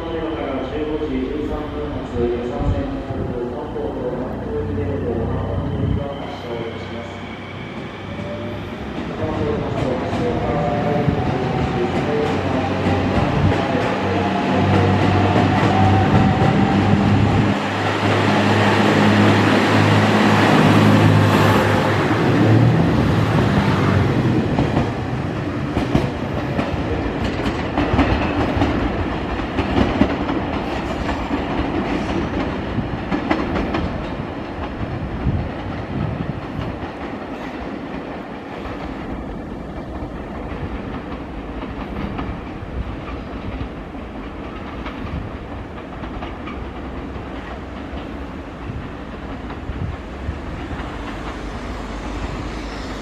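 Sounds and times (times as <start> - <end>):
train wheels clacking on rails: 8.2 - 53.0.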